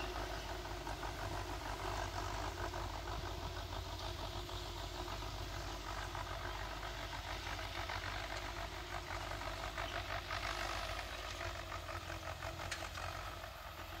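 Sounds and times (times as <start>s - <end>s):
distant tractor engine running: 0.0s - 14.0s.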